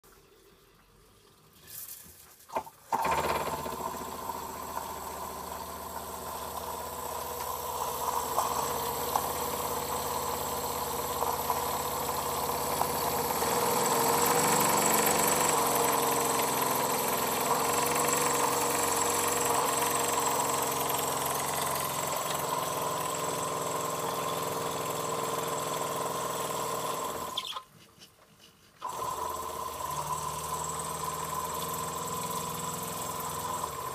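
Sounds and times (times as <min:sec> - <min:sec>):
small steam engine running: 0:02.9 - 0:27.6, 0:28.8 - 0:33.9.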